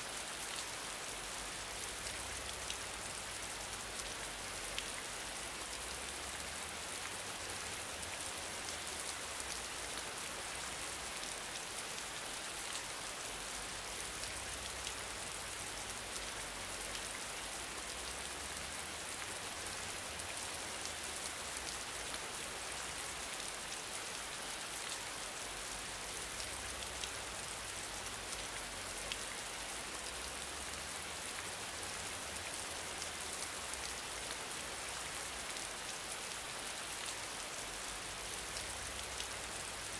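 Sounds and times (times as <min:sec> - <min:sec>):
steady rain-like noise: 0:00.0 - 0:39.9.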